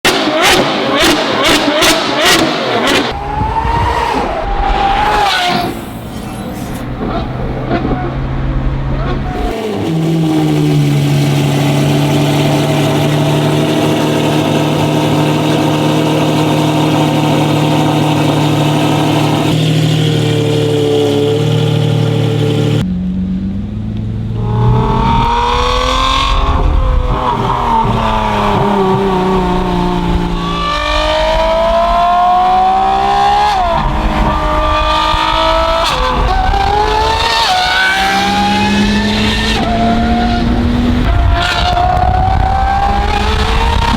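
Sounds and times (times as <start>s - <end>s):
sports car engine accelerating: 0.2s - 43.9s.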